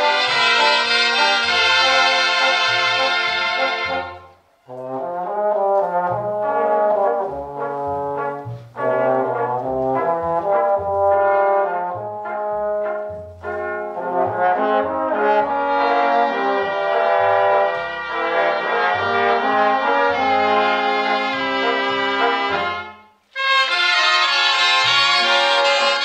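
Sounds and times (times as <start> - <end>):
brass section: 0.0 - 26.0
wind band playing: 0.0 - 26.0.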